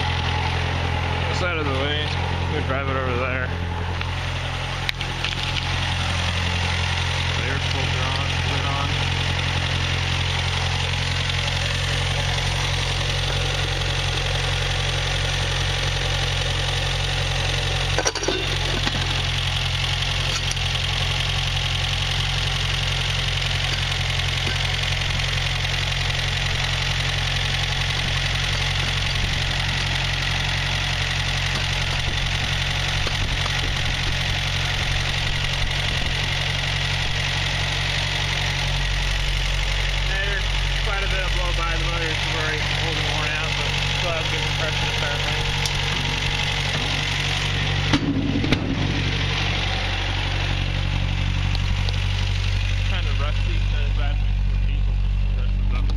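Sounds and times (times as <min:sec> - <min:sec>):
old engine idling: 0:00.0 - 0:55.9.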